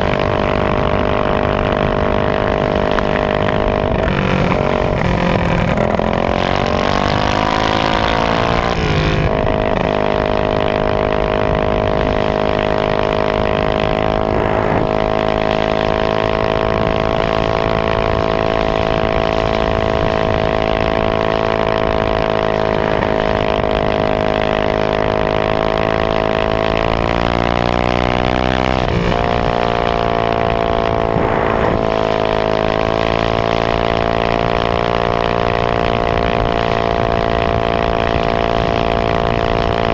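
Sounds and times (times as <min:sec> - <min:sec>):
minibike engine revving high: 0:00.0 - 0:39.9
wind noise: 0:00.0 - 0:39.9.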